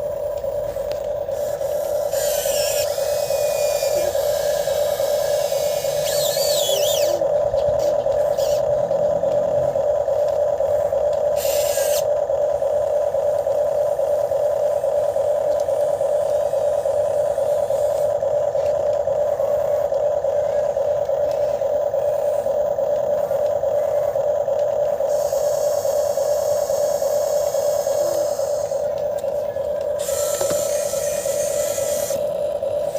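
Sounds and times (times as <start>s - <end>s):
motor whining: 0.0s - 32.9s.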